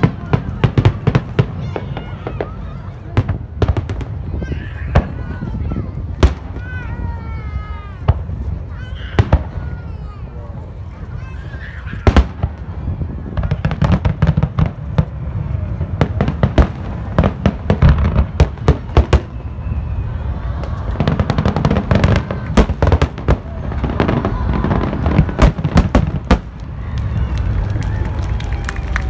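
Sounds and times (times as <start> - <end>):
fireworks bursting with bangs: 0.0 - 10.0, 11.6 - 27.5
constant low rumble: 0.0 - 29.0
fireworks crackling: 0.0 - 29.0.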